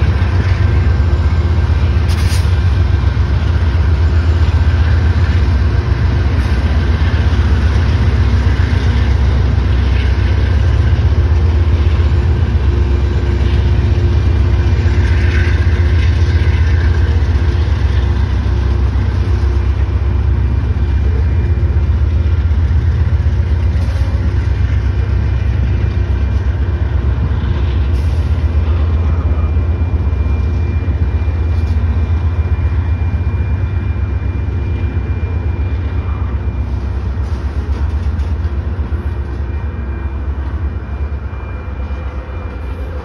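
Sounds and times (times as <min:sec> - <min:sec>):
diesel locomotive engines: 0:00.0 - 0:43.0
train cars rolling over rails: 0:00.0 - 0:43.0.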